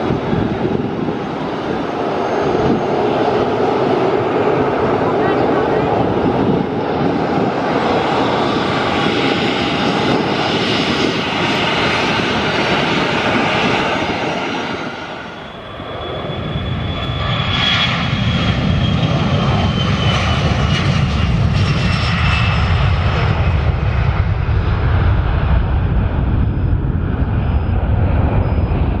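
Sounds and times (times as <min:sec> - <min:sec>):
jet engine takeoff roar: 0:00.0 - 0:29.0
jet engines whining: 0:00.0 - 0:29.0.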